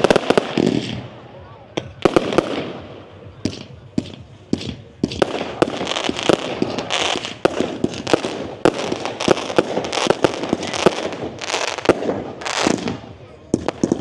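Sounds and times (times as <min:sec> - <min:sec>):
fireworks bangs and pops: 0:00.0 - 0:14.0
fireworks crackle: 0:00.0 - 0:14.0.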